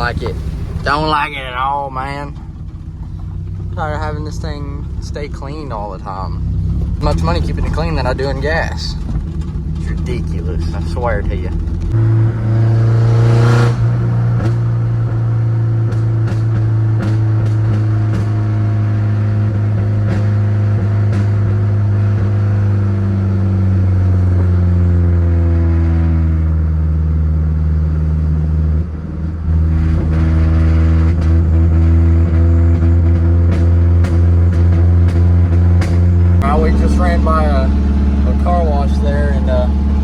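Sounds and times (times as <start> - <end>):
truck engine droning: 0.0 - 40.0.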